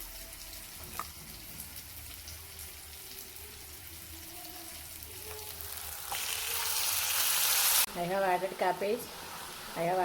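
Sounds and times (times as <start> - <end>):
onions sizzling in a frying pan: 0.0 - 10.0.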